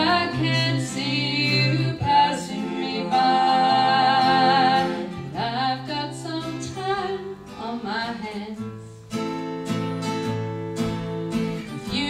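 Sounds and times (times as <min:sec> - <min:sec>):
acoustic guitars strummed: 0:00.0 - 0:12.0.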